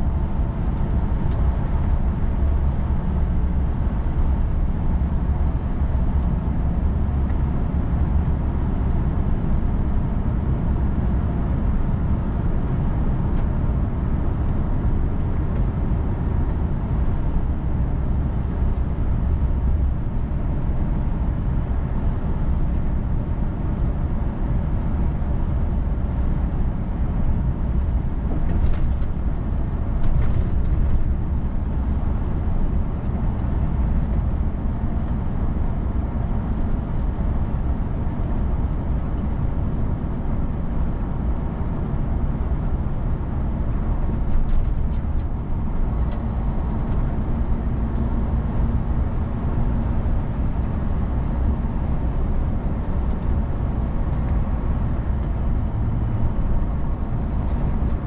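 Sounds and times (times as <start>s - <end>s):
vehicle driving on wet road: 0.0s - 58.0s.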